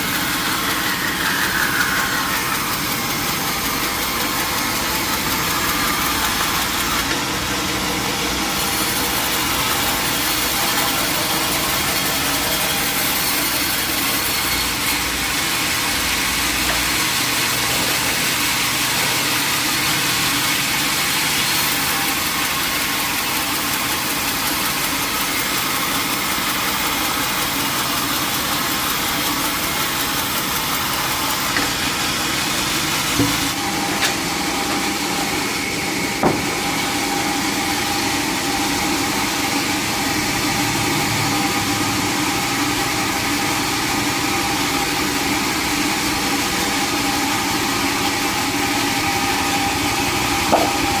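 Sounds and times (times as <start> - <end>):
sawmill machinery running: 0.0 - 51.0.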